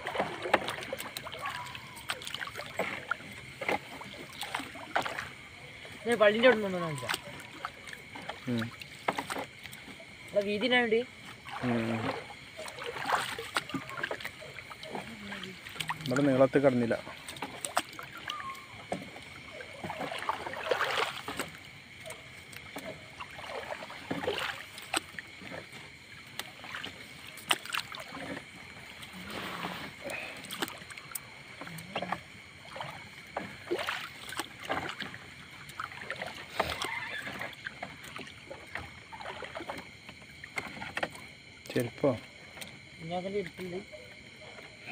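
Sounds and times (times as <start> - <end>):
net splashing in water: 0.0 - 10.6, 11.2 - 41.8
water washing: 0.0 - 44.9.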